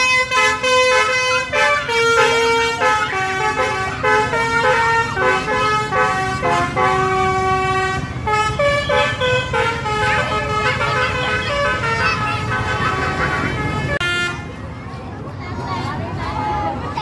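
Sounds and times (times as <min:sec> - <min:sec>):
bus horn playing a tune: 0:00.0 - 0:14.6
voices shouting: 0:00.0 - 0:17.0.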